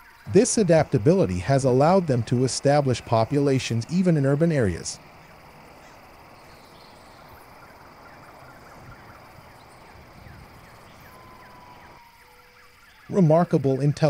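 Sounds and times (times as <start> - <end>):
small birds chirping: 0.0 - 14.0
steady low hiss: 0.0 - 14.0.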